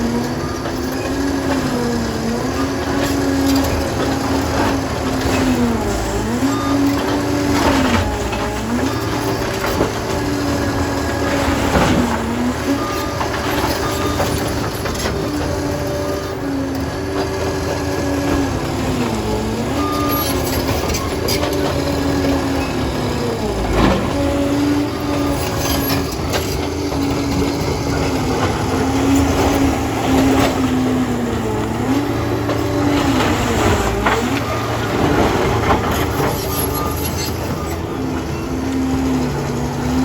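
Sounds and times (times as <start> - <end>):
dozer diesel engine working: 0.0 - 40.0.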